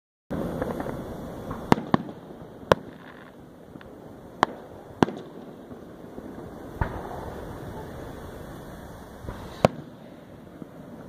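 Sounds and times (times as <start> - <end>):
firework shells bursting: 0.3 - 11.0.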